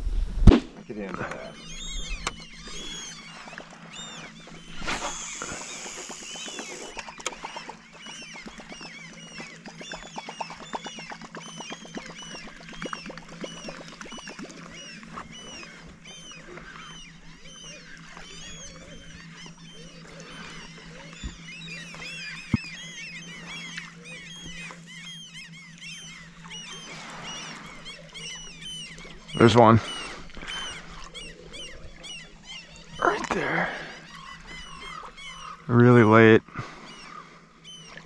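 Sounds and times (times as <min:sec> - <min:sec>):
birds chirping: 0:00.0 - 0:38.0
steady low hum: 0:00.0 - 0:38.0.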